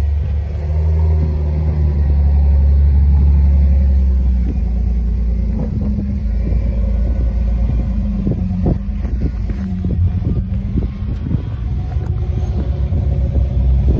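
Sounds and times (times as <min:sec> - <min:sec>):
car engine running at low revs: 0:00.0 - 0:13.9.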